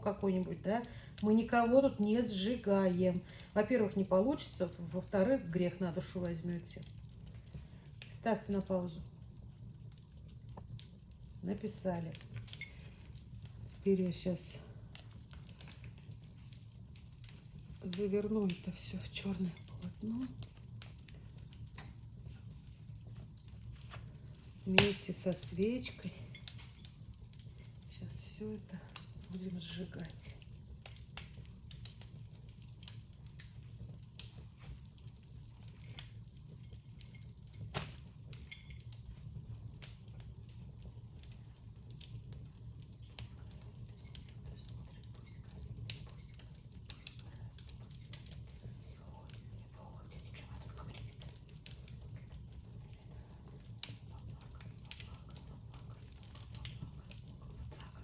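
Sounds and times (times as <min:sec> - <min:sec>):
low steady hum: 0:00.0 - 0:58.0
small fire crackling: 0:00.0 - 0:58.0.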